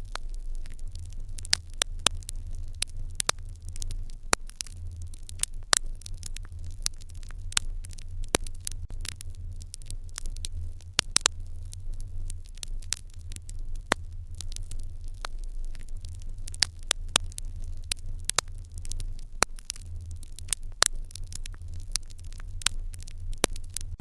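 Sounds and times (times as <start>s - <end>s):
fire crackling and popping: 0.0s - 24.0s
low rumble: 0.0s - 24.0s.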